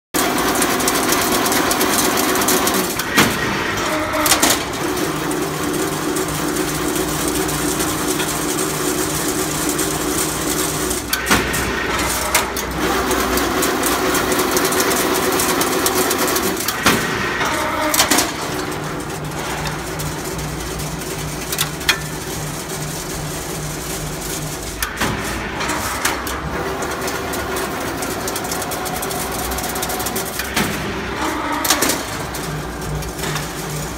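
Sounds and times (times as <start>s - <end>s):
machine motor hum: 0.2s - 33.9s
sharp machine clanks: 0.2s - 33.9s.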